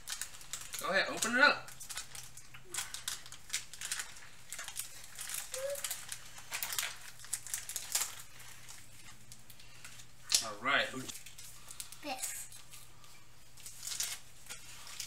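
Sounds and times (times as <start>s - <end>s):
card pack wrappers crinkling: 0.0s - 15.0s.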